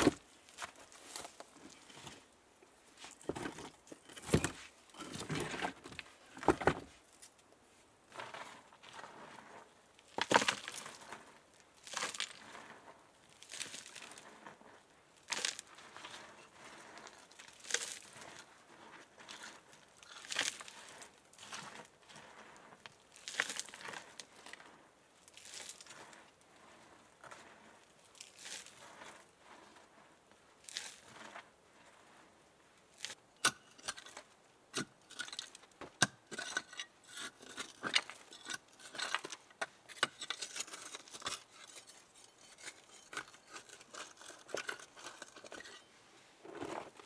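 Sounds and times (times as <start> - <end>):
hand scraping dirt and gravel: 0.0 - 7.4, 8.1 - 47.0.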